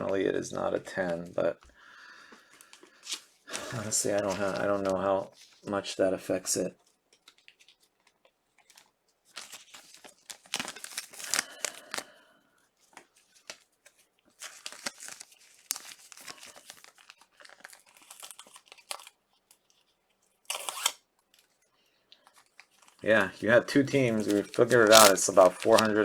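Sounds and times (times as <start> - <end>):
packaging crinkling and rustling: 2.5 - 5.7, 6.8 - 12.2, 12.8 - 26.0.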